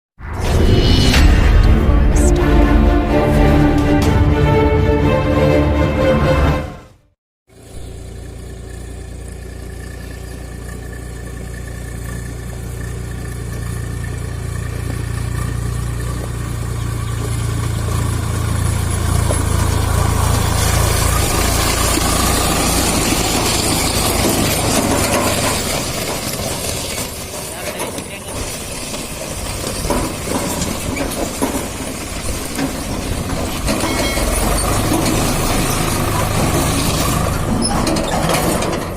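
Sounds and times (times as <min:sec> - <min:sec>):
tractor diesel engine running: 0:07.5 - 0:38.9.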